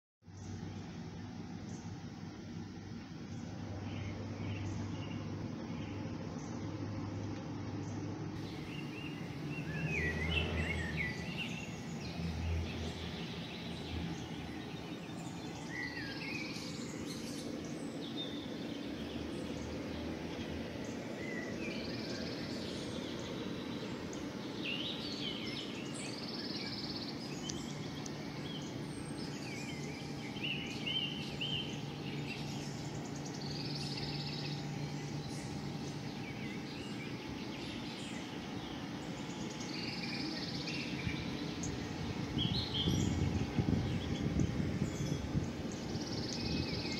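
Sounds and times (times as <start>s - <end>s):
low outdoor background hum: 0.2s - 46.9s
birds chirping: 0.3s - 46.9s.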